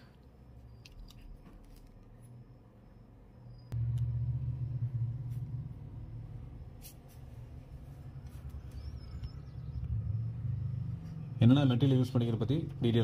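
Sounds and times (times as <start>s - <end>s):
low steady hum-rumble: 0.0s - 13.0s.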